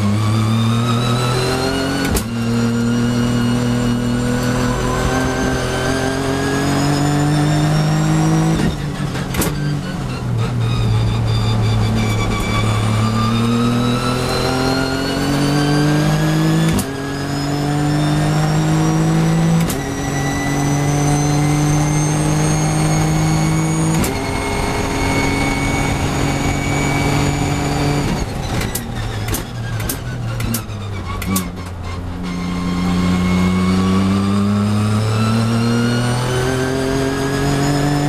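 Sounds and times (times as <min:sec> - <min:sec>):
race car engine at full throttle: 0:00.0 - 0:38.0.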